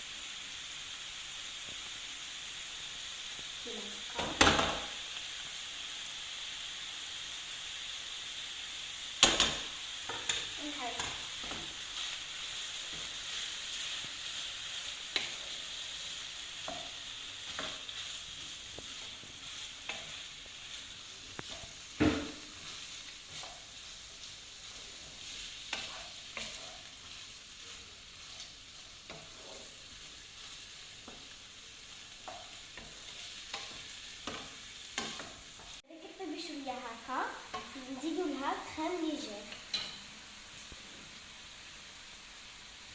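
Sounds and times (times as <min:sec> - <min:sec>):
meat sizzling in frying pan: 0:00.0 - 0:42.9.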